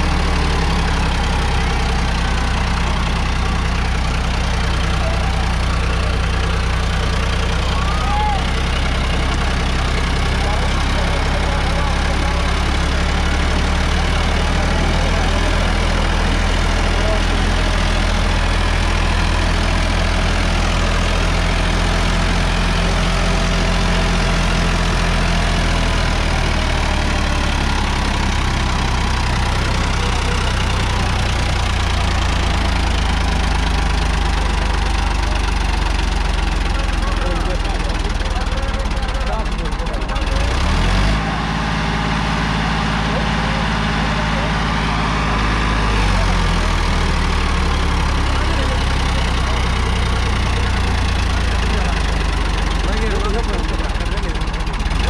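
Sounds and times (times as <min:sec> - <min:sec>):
tractor diesel engine clattering: 0:00.0 - 0:55.0.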